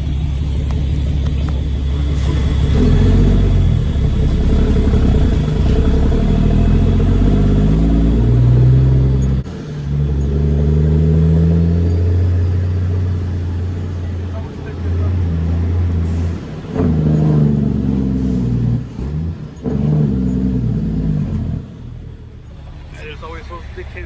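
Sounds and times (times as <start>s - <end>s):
diesel truck engine accelerating: 0.0s - 24.0s.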